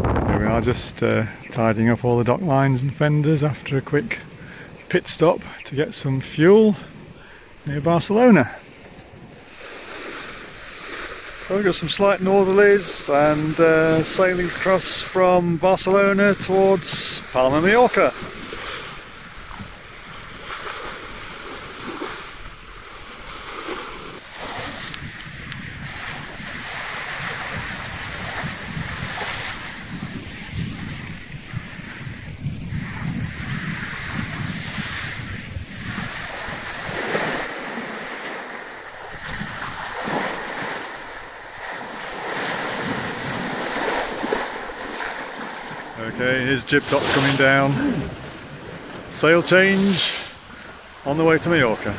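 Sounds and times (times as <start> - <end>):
water rushing along hull: 0.0 - 51.9
wind buffeting microphone: 0.0 - 51.9.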